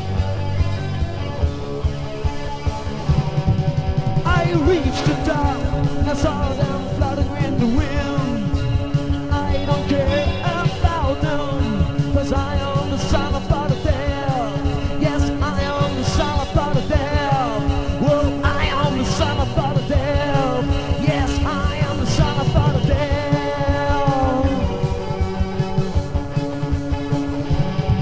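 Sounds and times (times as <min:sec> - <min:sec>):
goth rock band playing: 0:00.0 - 0:28.0.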